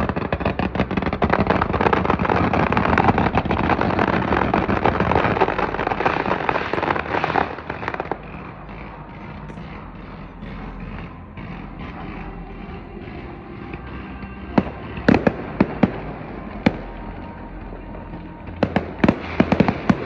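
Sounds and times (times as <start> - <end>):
firecrackers popping: 0.0 - 20.0.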